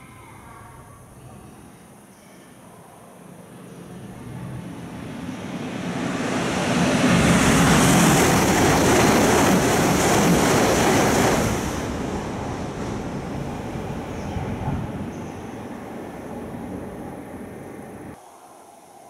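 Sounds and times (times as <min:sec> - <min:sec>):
high-speed train passing: 0:03.2 - 0:19.0.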